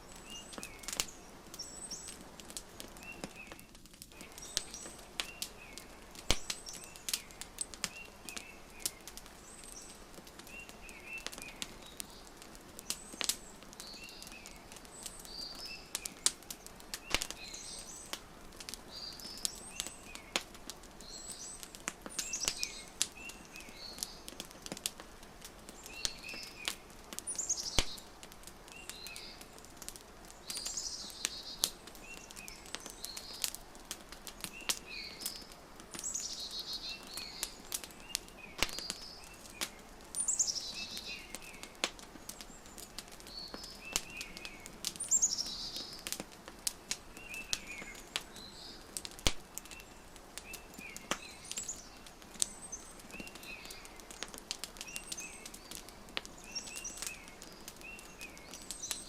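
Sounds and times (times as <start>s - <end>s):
songbirds chirping: 0.0s - 59.0s
wood fire crackling and popping: 0.0s - 59.0s.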